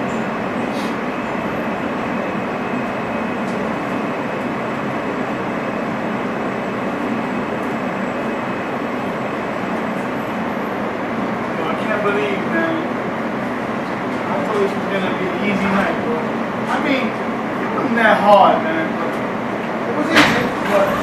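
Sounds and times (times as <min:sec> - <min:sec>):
subway wheels on rail: 0:00.0 - 0:21.0.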